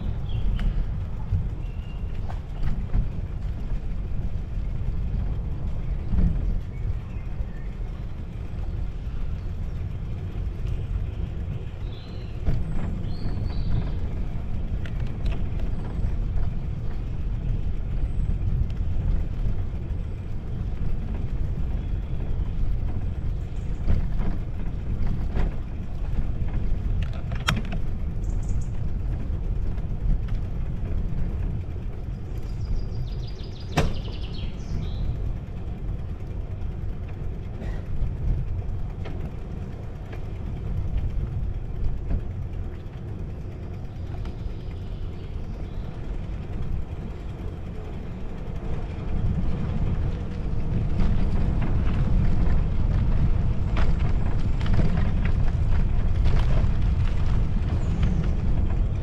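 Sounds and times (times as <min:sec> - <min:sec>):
wind and tyre noise: 0:00.0 - 0:59.0.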